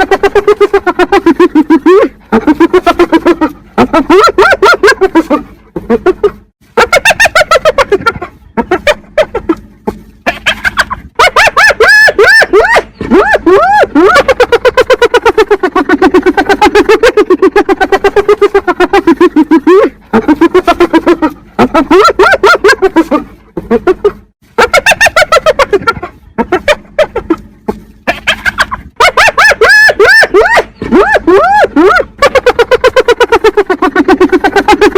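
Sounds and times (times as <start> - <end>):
hyena giggling: 0.0 - 34.9.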